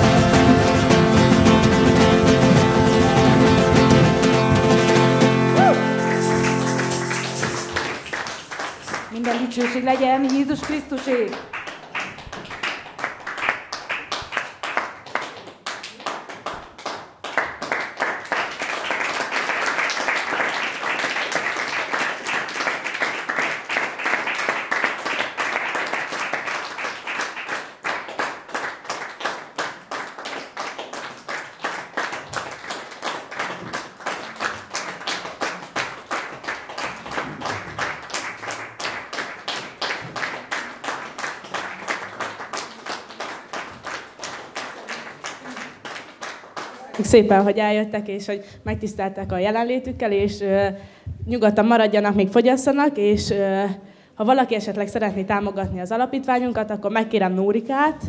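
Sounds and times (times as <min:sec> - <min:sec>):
audience applauding: 0:00.0 - 0:47.2
rhythmic clapping: 0:00.0 - 0:47.5.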